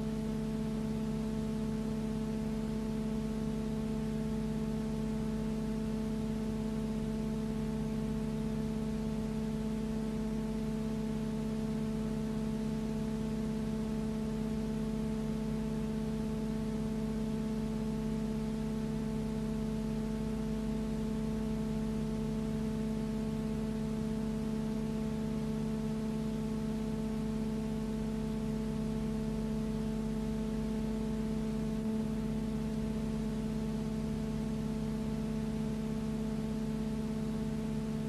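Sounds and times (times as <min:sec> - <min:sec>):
steady hum with overtones: 0:00.0 - 0:38.0.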